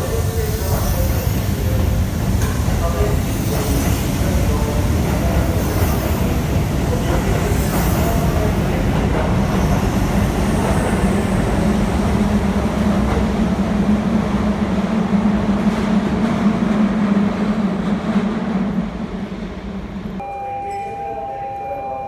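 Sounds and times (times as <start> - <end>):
train rail rumble: 0.0 - 20.2.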